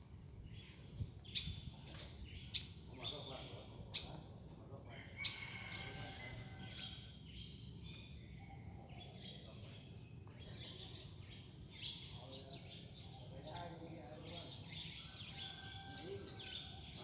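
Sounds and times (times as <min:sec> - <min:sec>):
birds chirping: 0:00.4 - 0:17.0.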